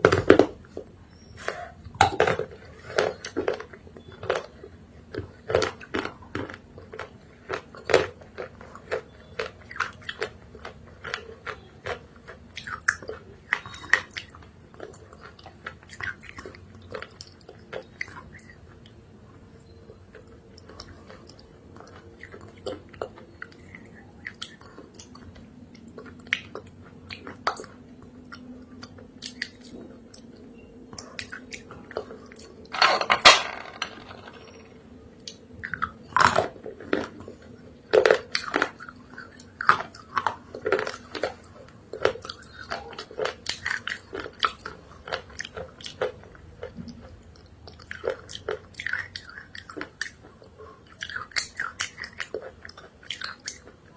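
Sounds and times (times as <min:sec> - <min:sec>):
person chewing crunchy clay: 0:00.0 - 0:32.6, 0:35.2 - 0:53.9.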